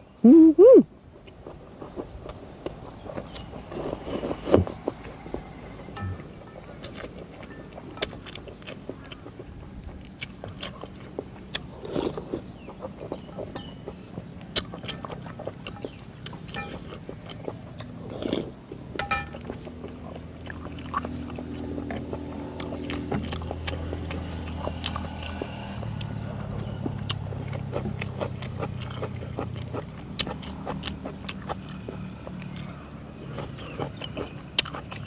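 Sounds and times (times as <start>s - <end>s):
low engine hum: 0.0s - 35.0s
person chewing: 1.2s - 35.0s.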